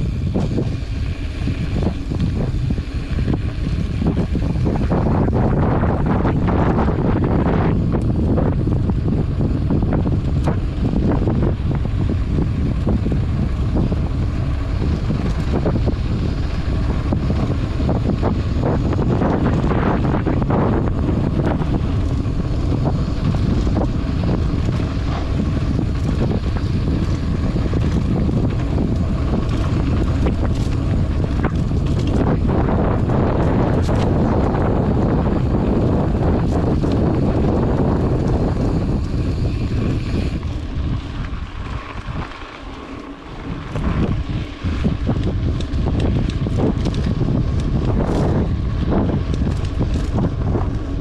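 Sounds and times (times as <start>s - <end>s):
bike clicks and rattles: 0.0s - 51.0s
tyres rumbling on dirt: 0.0s - 51.0s
wind buffeting the microphone: 0.0s - 51.0s.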